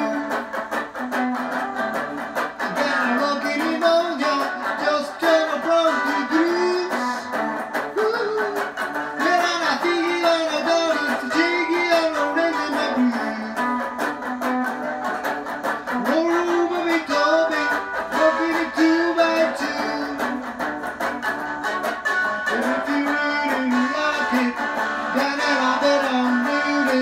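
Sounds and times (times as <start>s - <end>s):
electric guitar with bending notes: 0.0s - 27.0s
steady rhythm backing: 0.0s - 27.0s.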